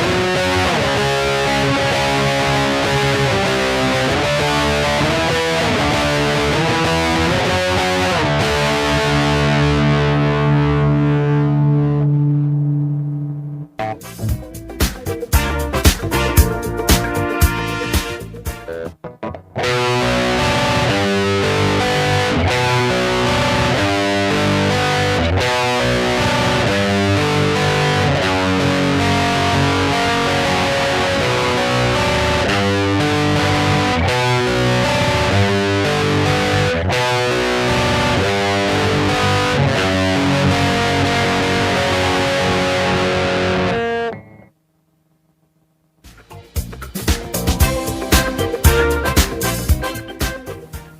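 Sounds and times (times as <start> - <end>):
distorted electric guitar: 0.0 - 50.9.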